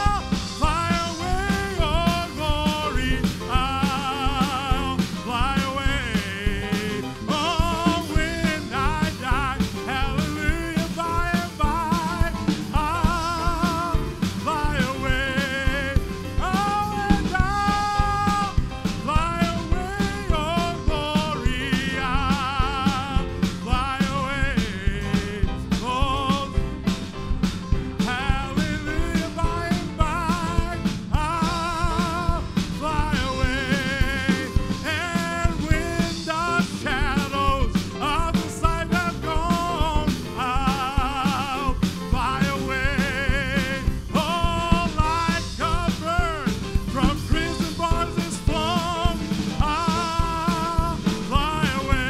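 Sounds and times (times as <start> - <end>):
fast drum beat: 0.0 - 52.0
lively church band music: 0.0 - 52.0.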